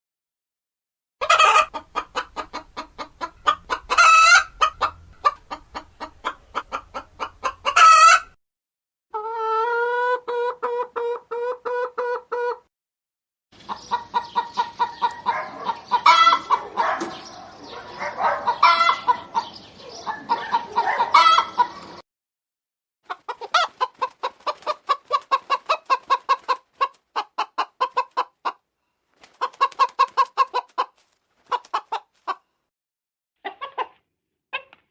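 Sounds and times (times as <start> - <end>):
hen clucking and cackling: 1.2 - 8.4, 9.1 - 12.7, 13.6 - 22.0, 23.1 - 28.6, 29.2 - 32.4, 33.4 - 34.8.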